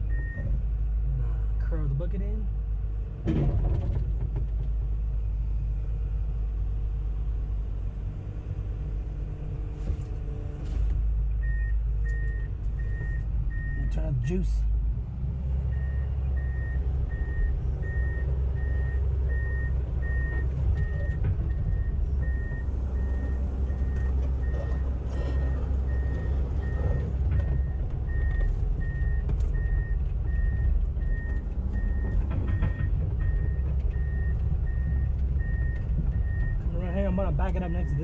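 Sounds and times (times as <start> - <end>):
diesel engine droning: 0.0 - 38.0.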